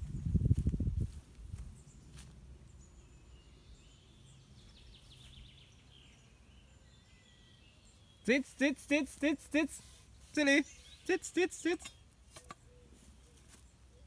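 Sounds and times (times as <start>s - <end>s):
bird chirps and song: 0.0s - 14.0s.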